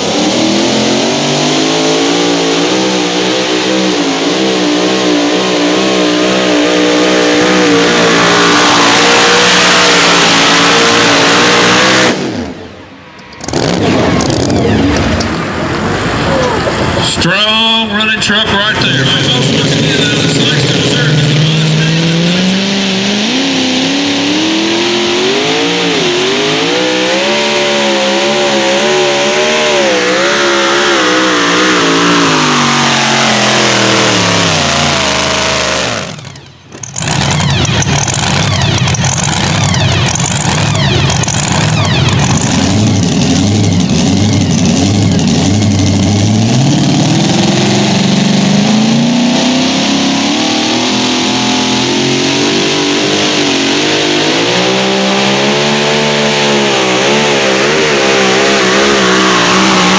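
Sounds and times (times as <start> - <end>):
engine running at high revs: 0.0 - 59.9.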